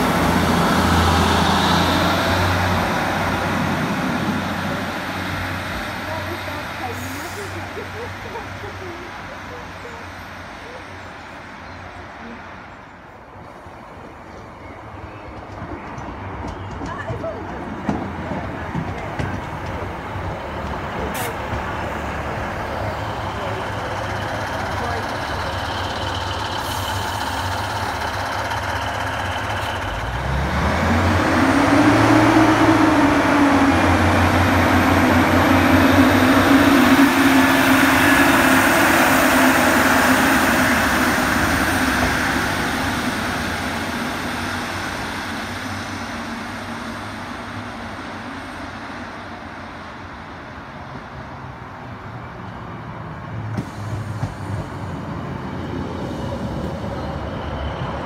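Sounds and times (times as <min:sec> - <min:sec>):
diesel train engines revving: 0:00.0 - 0:58.0
train wheel and rail noise: 0:00.0 - 0:58.0.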